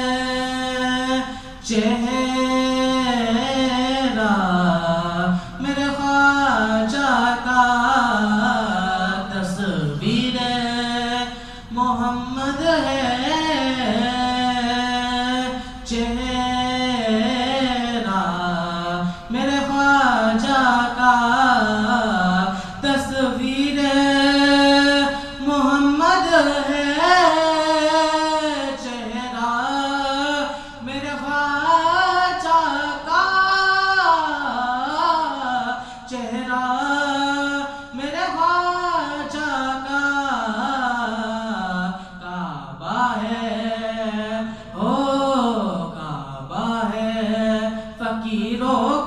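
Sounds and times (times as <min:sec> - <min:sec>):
man singing unaccompanied: 0:00.0 - 0:49.0.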